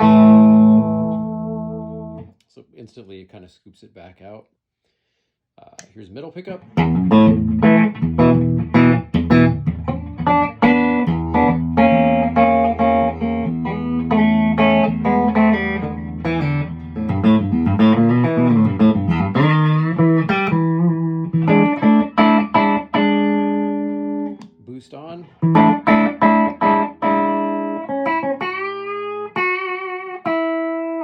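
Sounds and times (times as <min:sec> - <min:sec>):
electric guitar notes and chords: 0:00.0 - 0:02.3, 0:06.6 - 0:24.6, 0:25.3 - 0:31.0.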